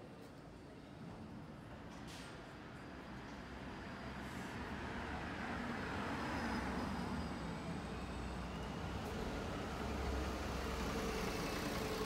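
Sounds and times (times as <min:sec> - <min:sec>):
bus driving past: 0:02.0 - 0:12.0.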